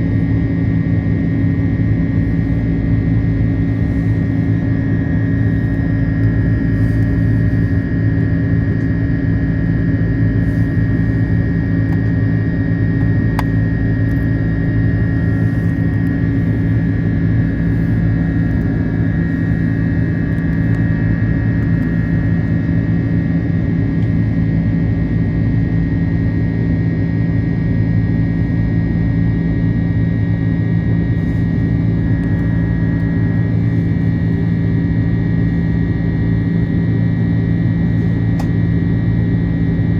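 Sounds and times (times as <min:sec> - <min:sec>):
airplane cabin engine rush: 0:00.0 - 0:39.9
low hum: 0:00.0 - 0:39.9.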